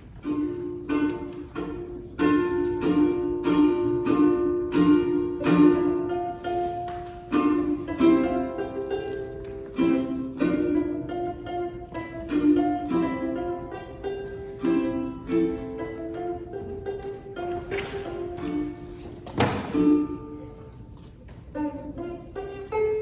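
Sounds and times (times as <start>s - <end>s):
ukulele playing: 0.0s - 23.0s.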